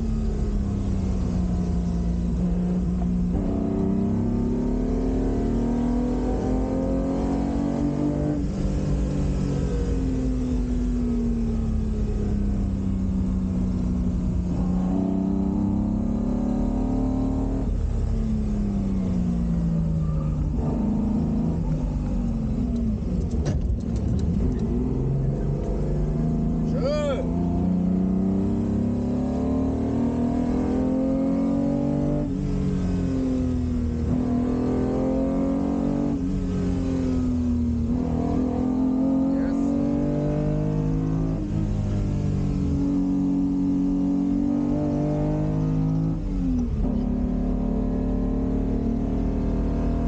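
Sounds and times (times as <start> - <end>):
car engine revving and shifting gears: 0.0 - 50.0.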